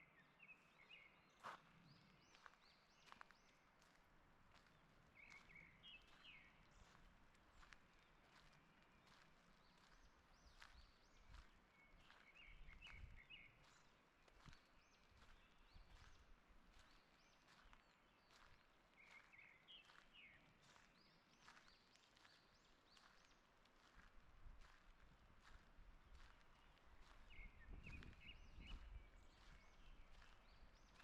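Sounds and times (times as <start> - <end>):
songbirds singing: 0.0 - 3.9, 4.5 - 31.0
footsteps on forest path: 1.3 - 31.0.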